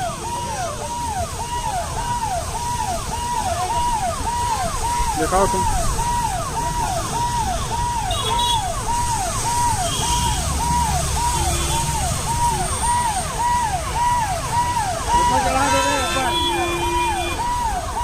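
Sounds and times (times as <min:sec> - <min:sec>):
electronic vehicle siren: 0:00.0 - 0:18.0.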